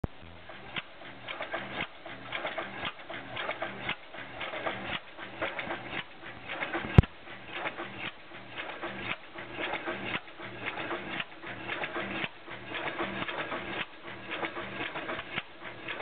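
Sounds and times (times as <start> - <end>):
stationary engine clattering: 0.0 - 16.0.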